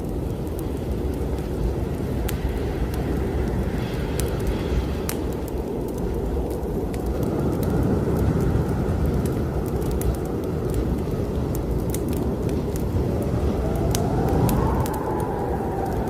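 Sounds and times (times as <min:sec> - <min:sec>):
snowstorm wind blowing: 0:00.0 - 0:16.0
wood fire crackling and popping: 0:00.0 - 0:16.0.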